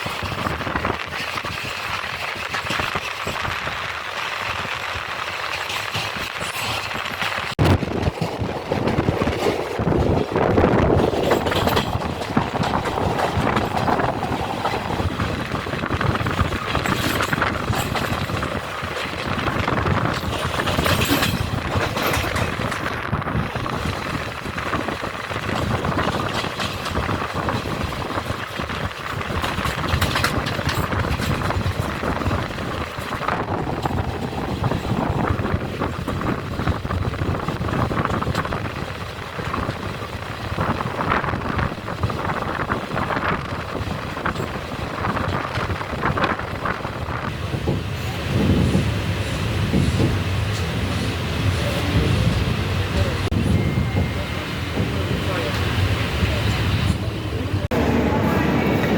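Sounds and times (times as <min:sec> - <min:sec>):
train rumbling on track: 0:00.0 - 0:58.9
wheels rattling and clacking: 0:00.0 - 0:58.9.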